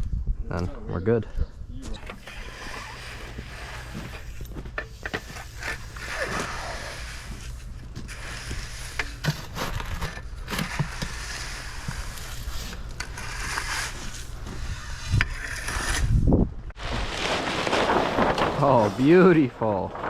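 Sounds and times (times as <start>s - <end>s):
tools scraping through gravel: 2.0s - 16.2s, 16.8s - 20.0s.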